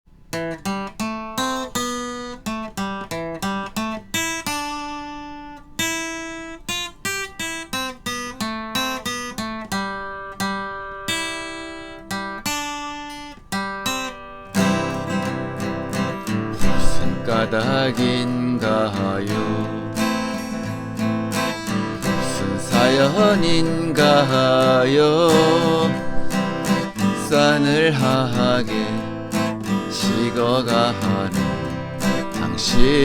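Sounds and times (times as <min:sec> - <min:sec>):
plucked acoustic guitar melody: 0:00.1 - 0:33.0
strummed guitar with bass: 0:00.2 - 0:33.0.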